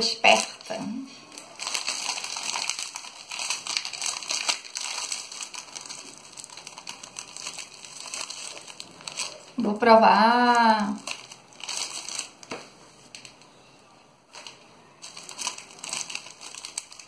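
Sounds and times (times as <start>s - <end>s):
plastic wrapper crinkling: 0.0s - 13.6s, 14.3s - 17.0s.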